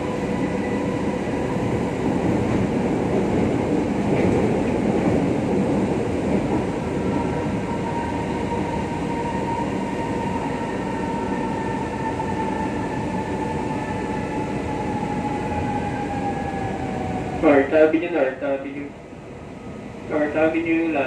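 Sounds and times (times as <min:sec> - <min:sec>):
train rumble and rail noise: 0:00.0 - 0:21.0.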